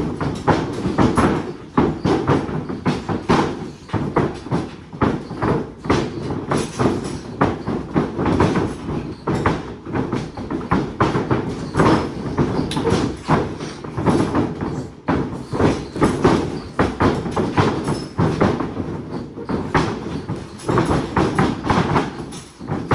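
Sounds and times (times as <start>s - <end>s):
bodies thumping onto mat: 0.0s - 22.9s
feet running on mat: 0.0s - 22.9s.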